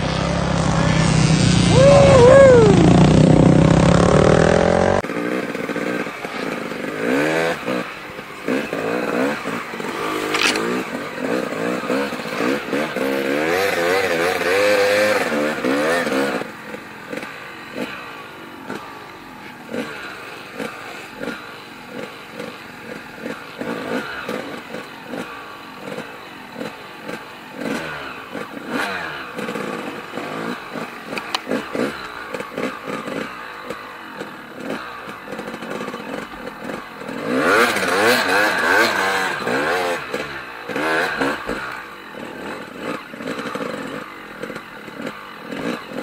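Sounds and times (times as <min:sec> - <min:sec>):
snowbike engines revving: 0:00.0 - 0:46.0.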